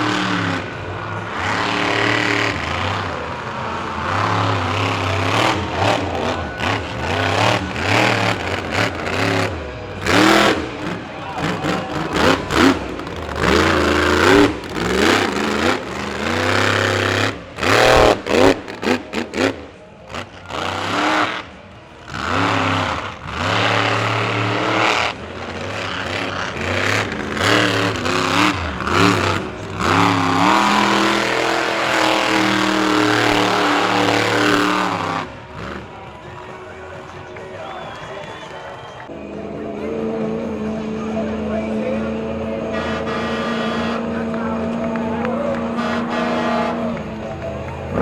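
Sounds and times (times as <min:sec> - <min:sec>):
truck engine revving hard: 0:00.0 - 0:39.1, 0:39.9 - 0:48.0.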